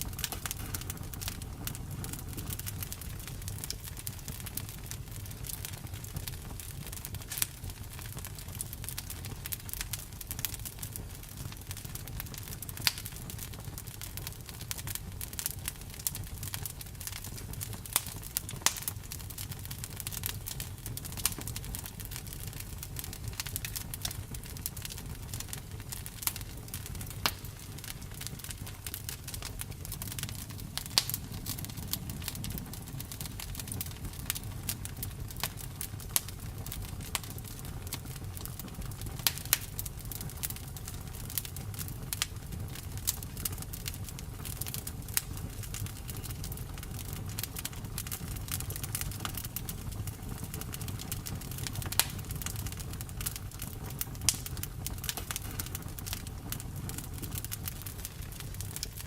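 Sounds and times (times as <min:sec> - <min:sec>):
campfire rumble: 0:00.0 - 0:59.0
fire crackling and popping: 0:00.0 - 0:59.0.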